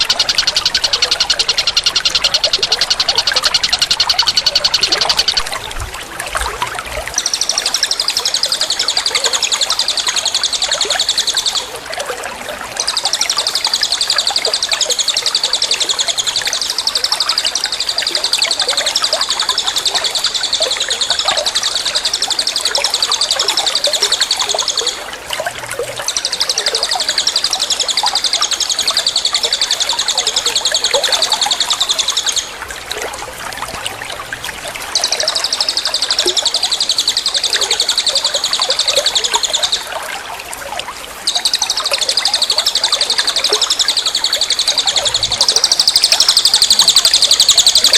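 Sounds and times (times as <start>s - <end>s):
songbird rapid trill: 0.0s - 5.8s, 7.1s - 11.8s, 12.8s - 25.1s, 25.9s - 32.6s, 34.9s - 40.3s, 41.2s - 47.9s
trickle of running water: 0.0s - 47.9s.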